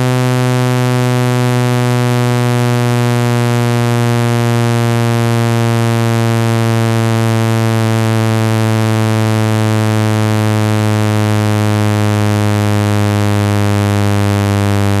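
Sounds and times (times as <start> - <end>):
loud low buzzing tone: 0.0 - 15.0.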